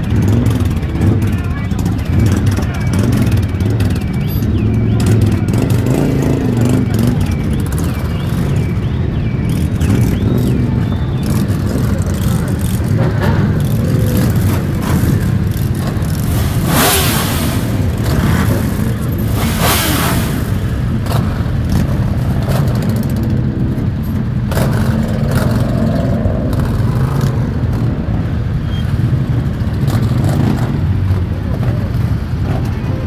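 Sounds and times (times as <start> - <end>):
motorcycle engines revving: 0.0 - 33.0
motorcycle engines running: 0.0 - 33.0.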